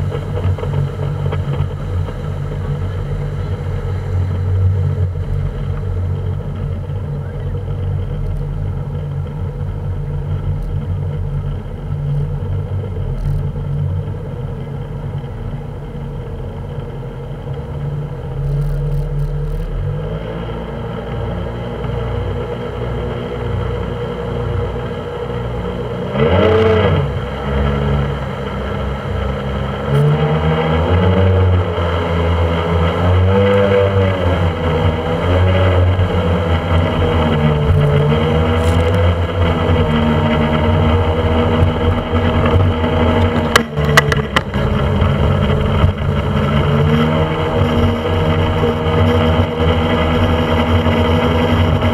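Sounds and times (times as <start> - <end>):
speedboat engine droning: 0.0 - 51.9.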